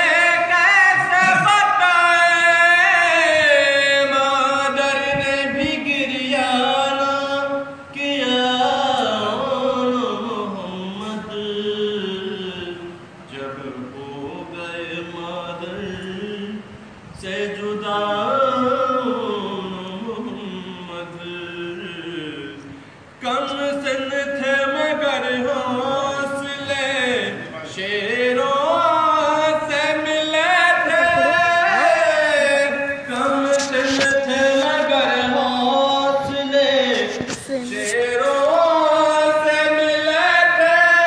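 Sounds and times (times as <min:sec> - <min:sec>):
man chanting unaccompanied: 0:00.0 - 0:41.0.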